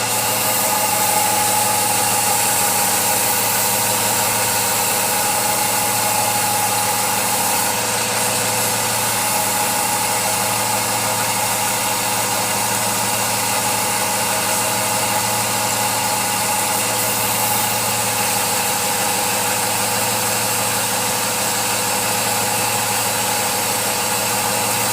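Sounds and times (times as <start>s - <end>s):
woodworking machine motor humming: 0.0s - 24.9s.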